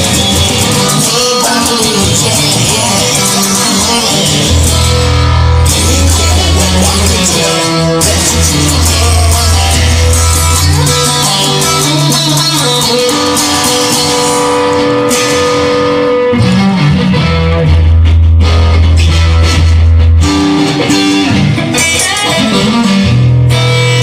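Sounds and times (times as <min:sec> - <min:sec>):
bass line: 0:00.0 - 0:24.0
electric guitar playing: 0:00.0 - 0:24.0.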